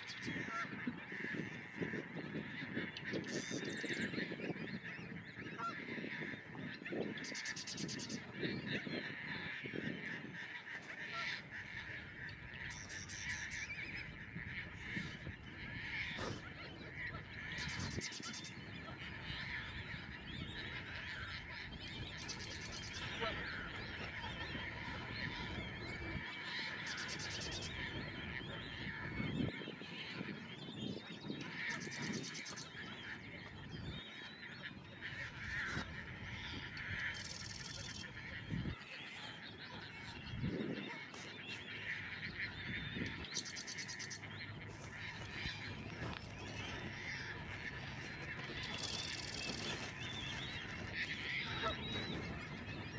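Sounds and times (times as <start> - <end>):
small birds chirping and trilling: 0.0 - 52.9
waterfowl calling: 0.0 - 52.9.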